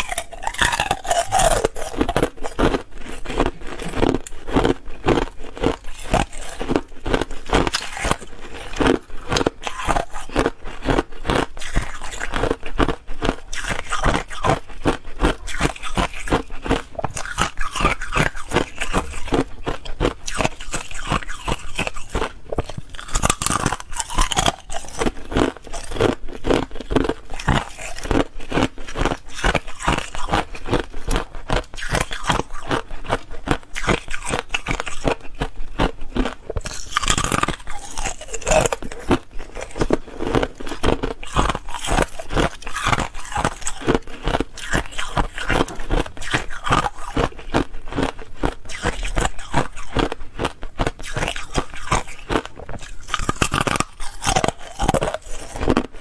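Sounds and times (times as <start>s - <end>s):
ice being bitten and chewed: 0.0s - 56.0s.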